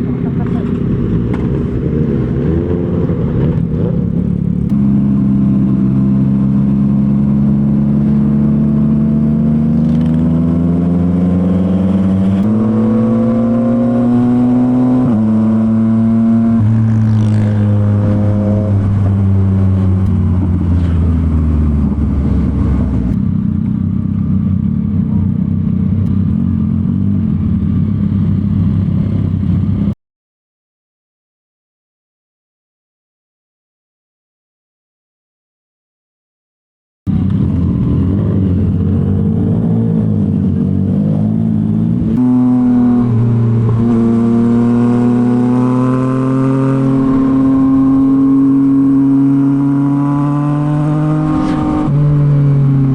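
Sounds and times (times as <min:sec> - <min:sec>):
motorcycle engine revving: 0:00.0 - 0:29.9, 0:37.1 - 0:52.9.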